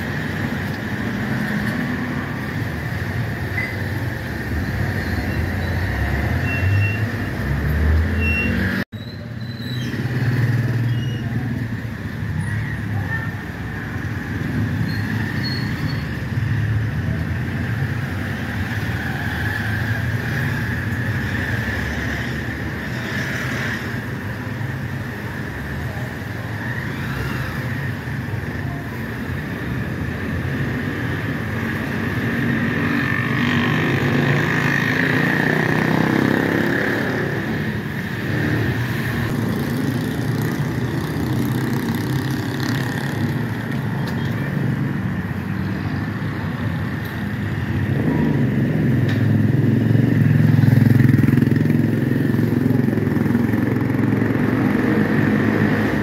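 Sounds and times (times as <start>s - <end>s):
traffic noise: 0.0s - 56.0s.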